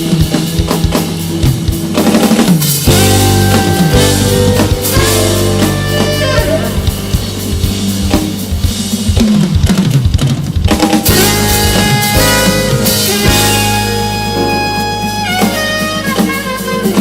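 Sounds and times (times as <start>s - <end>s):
quick drum hits: 0.0s - 14.2s
jazz band playing: 0.0s - 17.0s.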